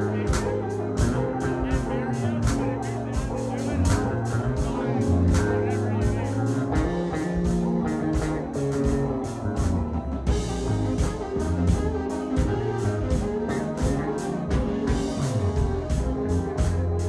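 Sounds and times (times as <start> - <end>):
drum kit with cymbal pulse: 0.0 - 17.0
electric bass: 0.0 - 17.0
keyboards: 0.0 - 17.0.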